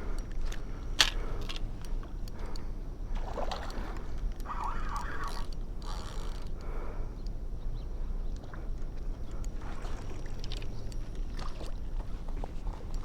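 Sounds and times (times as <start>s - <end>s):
water splashing and sloshing: 0.0s - 6.9s, 8.2s - 13.0s.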